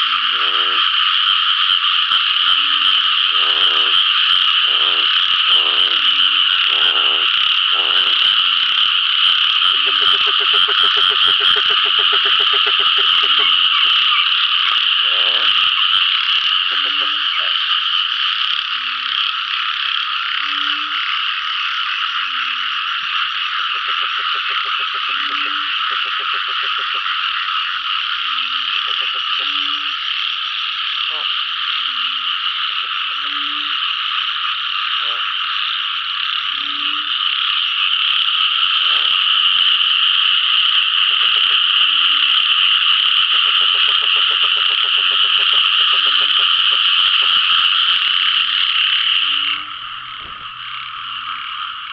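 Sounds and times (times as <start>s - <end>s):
frog rattling call: 0.0s - 51.9s
frogs low calls: 0.0s - 51.9s
high-pitched frog chorus: 0.0s - 51.9s.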